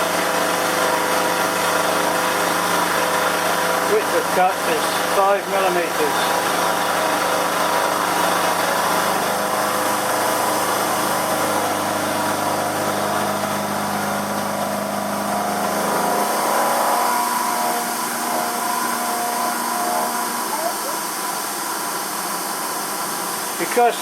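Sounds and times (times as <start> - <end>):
metal cutting noise: 0.0 - 24.0
milling machine whine: 0.0 - 24.0.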